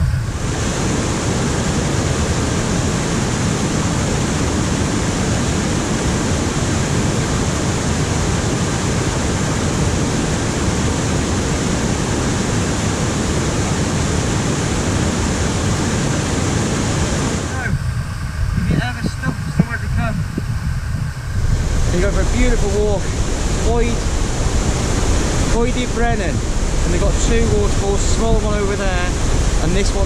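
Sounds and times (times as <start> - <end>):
waterfall rushing: 0.0 - 17.8, 21.6 - 30.0.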